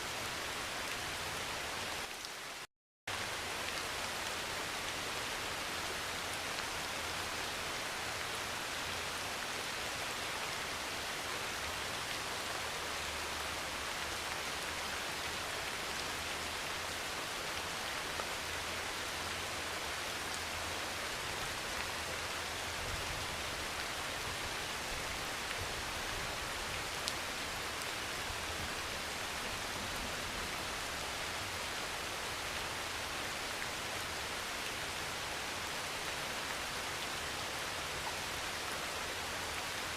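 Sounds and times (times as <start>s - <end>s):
heavy rain on metal roof: 0.1s - 39.9s.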